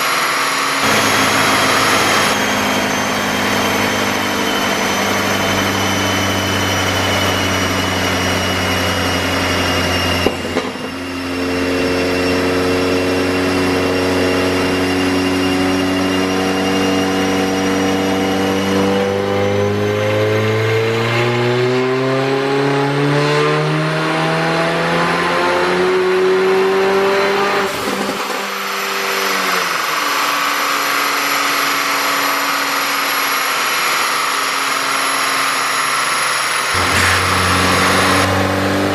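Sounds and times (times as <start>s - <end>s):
car engine revving on dyno: 0.0s - 38.9s.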